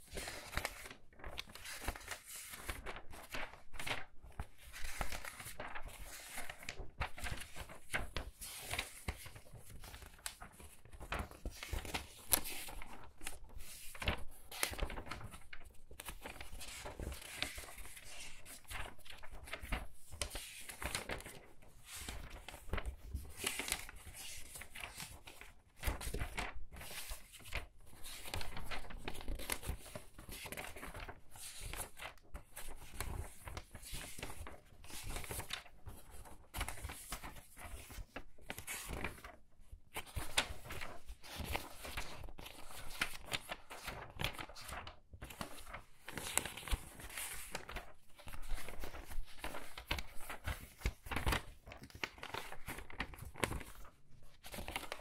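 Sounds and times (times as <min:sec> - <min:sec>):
book pages being turned: 0:00.0 - 0:39.4, 0:40.0 - 0:55.0.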